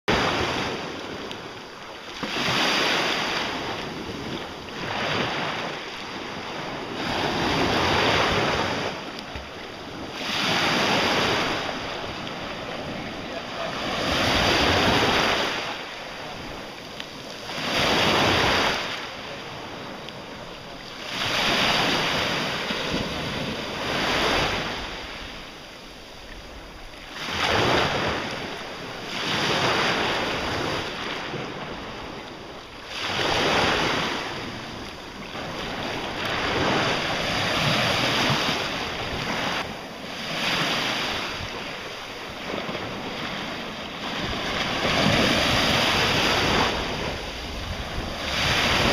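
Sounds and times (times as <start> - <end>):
small sea waves washing in: 0.1 - 48.9
wind on the microphone: 0.1 - 48.9.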